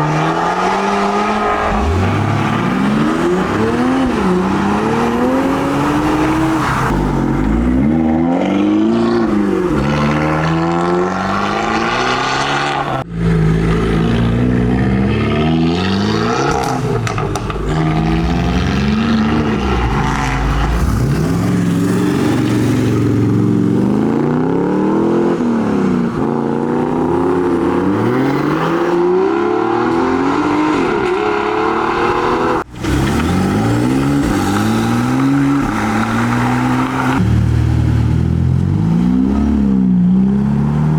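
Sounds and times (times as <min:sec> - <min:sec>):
car engines revving and accelerating: 0:00.0 - 0:40.9.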